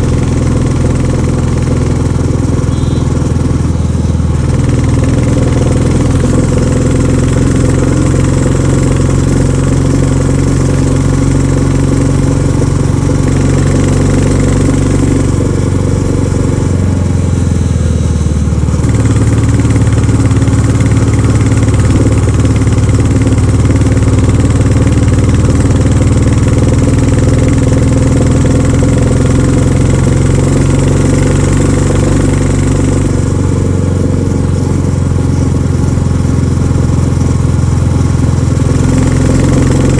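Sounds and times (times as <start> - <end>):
motorcycle engine thumping: 0.0 - 39.9.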